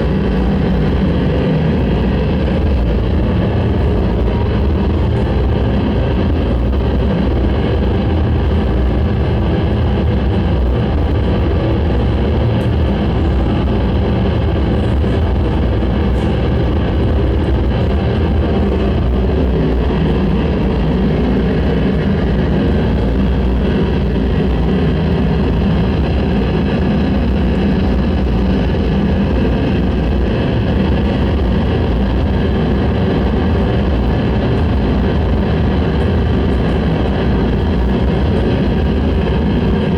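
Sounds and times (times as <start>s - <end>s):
dense low rumble: 0.0s - 39.9s
droning tones: 0.0s - 39.9s.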